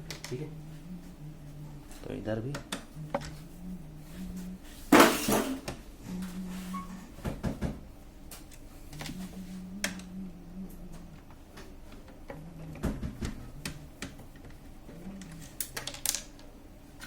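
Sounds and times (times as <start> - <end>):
low hum: 0.0 - 7.1, 8.9 - 15.7.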